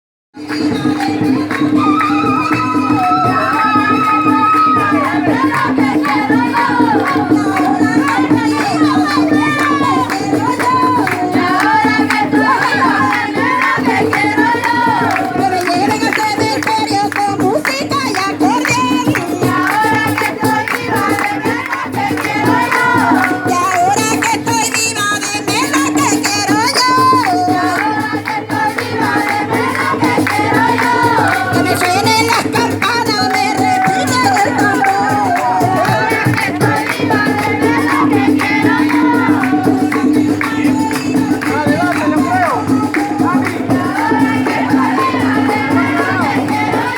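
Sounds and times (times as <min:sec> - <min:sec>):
group singing folk song: 0:00.4 - 0:46.9
instrumental accompaniment: 0:00.4 - 0:46.9
shaken percussion rattle: 0:00.6 - 0:46.9.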